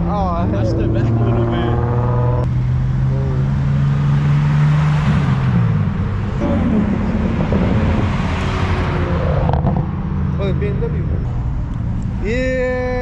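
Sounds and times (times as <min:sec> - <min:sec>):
car engine at high revs: 0:00.0 - 0:12.2.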